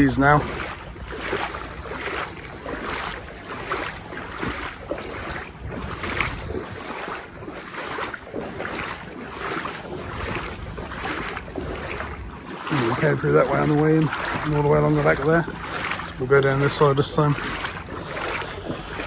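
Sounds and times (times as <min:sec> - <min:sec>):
legs wading through water: 0:00.0 - 0:19.0.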